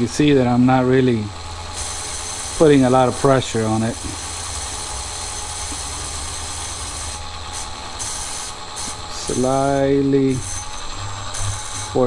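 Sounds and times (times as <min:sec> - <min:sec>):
small motor humming: 0:00.0 - 0:12.0
abrasive pad rubbing spinning wheel: 0:01.4 - 0:12.0.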